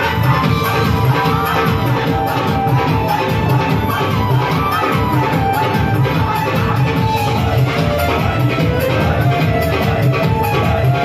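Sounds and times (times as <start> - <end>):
loud upbeat music: 0.0 - 11.0.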